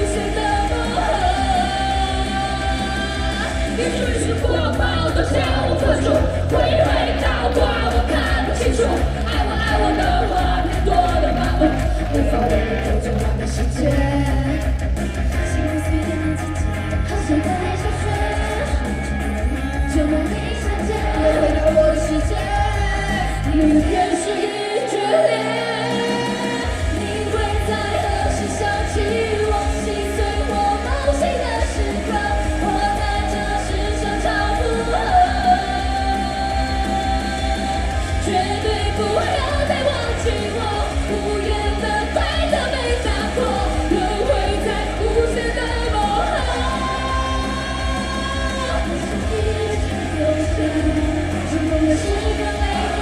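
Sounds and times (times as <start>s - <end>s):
live pop-rock song with singing: 0.0s - 53.0s.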